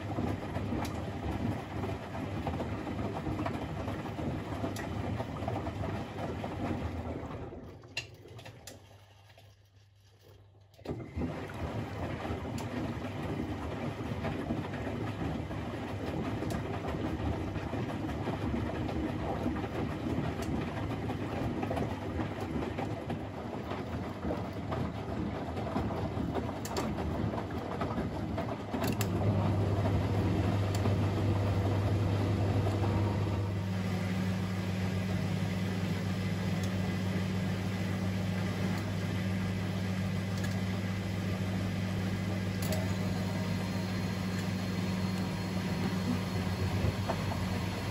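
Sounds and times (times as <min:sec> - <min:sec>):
washing machine rumbling: 0:00.0 - 0:09.5, 0:10.4 - 0:47.9.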